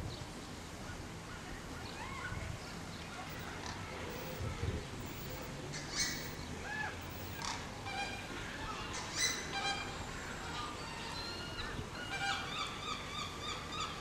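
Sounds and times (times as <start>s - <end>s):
outdoor background noise: 0.0s - 14.0s
birds calling: 1.8s - 14.0s.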